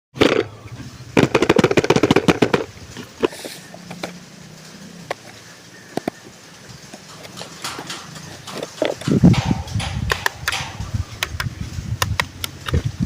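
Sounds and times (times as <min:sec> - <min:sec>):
sharp clicks and rattles: 0:00.2 - 0:13.0.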